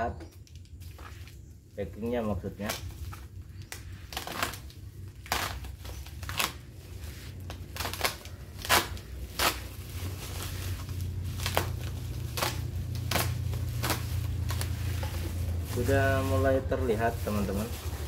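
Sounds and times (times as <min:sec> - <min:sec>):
plastic wrapping crinkling and ripping: 0:00.4 - 0:18.0
low hum: 0:03.0 - 0:18.0.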